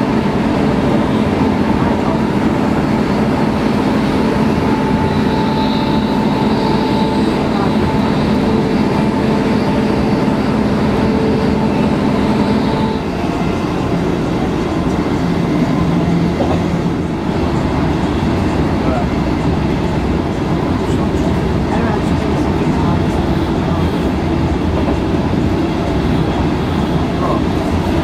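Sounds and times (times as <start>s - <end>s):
droning hum: 0.0s - 24.6s
train wheels rumbling on track: 0.0s - 28.0s.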